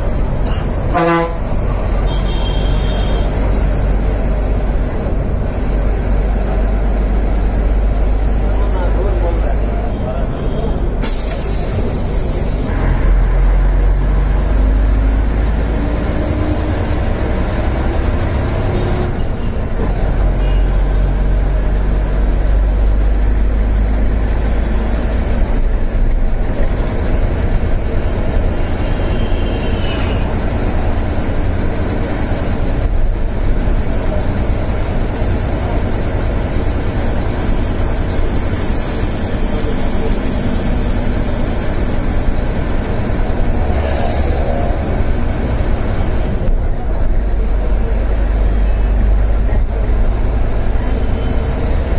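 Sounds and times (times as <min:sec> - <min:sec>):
bus engine drone: 0:00.0 - 0:51.9.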